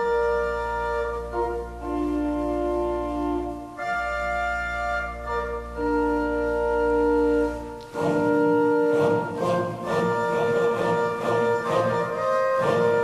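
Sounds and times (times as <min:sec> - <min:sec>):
organ-like held chords: 0:00.0 - 0:13.0.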